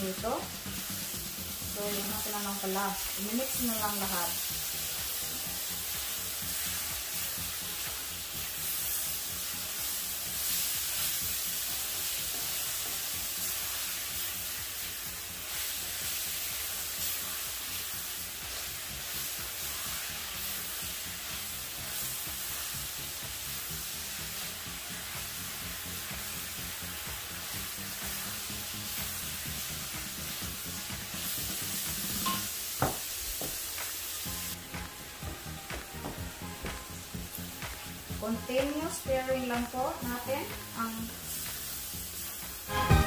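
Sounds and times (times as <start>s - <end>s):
food sizzling in a skillet: 0.0s - 43.0s.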